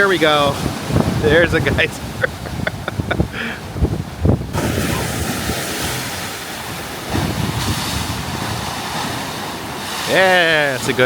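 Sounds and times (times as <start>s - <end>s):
wind buffeting microphone: 0.0s - 10.0s
ocean waves crashing on rocks: 0.0s - 11.0s.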